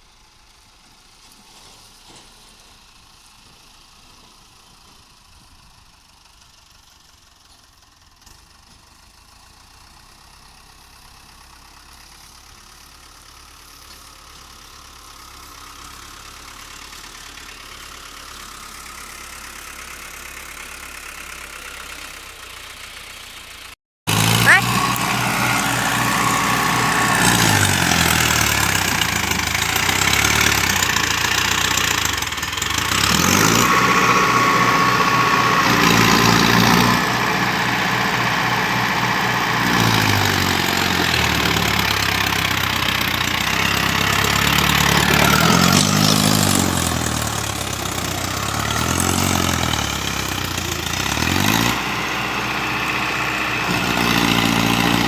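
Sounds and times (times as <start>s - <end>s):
tractor diesel engine revving: 8.2s - 55.0s.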